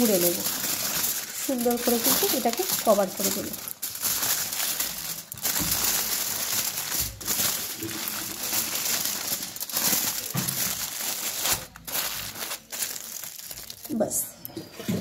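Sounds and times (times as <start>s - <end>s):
aluminium foil crinkling: 0.0s - 14.3s.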